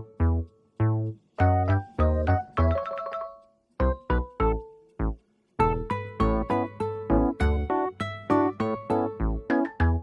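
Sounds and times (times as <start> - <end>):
bouncy keyboard tune: 0.0 - 10.0.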